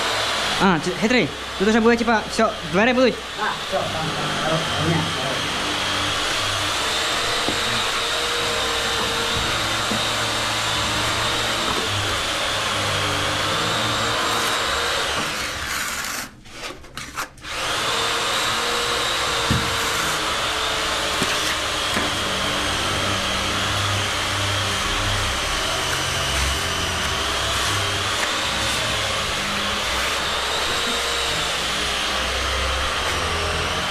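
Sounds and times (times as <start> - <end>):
electric motor whining with rushing air: 0.0 - 15.6, 17.5 - 33.9.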